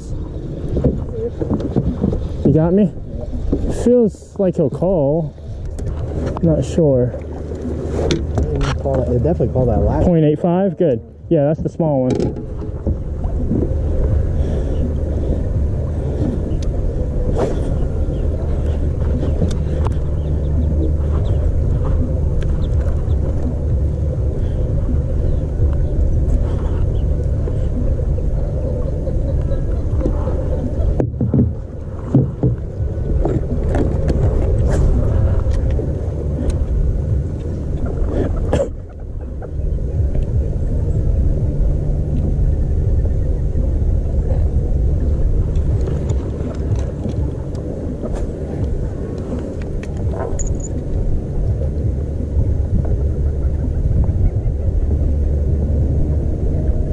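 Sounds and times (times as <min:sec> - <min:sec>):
steady low rumble: 0:00.0 - 0:56.9.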